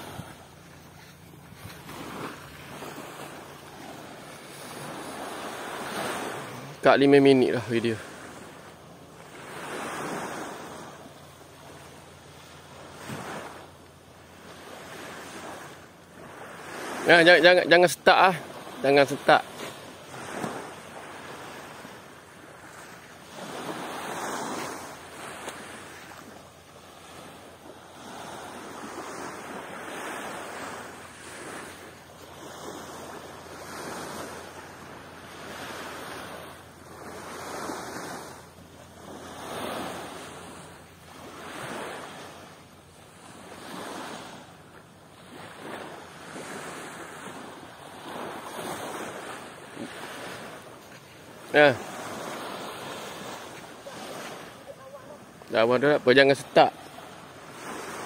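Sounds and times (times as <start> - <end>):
small waves washing in: 0.0 - 58.0.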